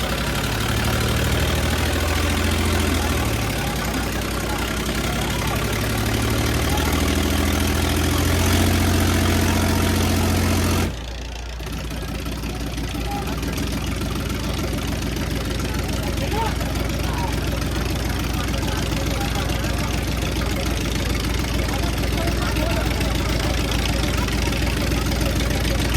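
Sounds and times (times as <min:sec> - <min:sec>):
diesel tractor engine under load: 0:00.0 - 0:25.9.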